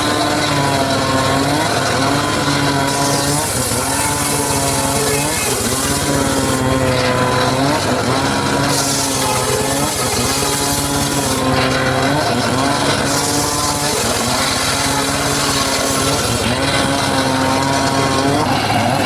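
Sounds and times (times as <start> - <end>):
circular saw cutting wood: 0.0 - 19.0.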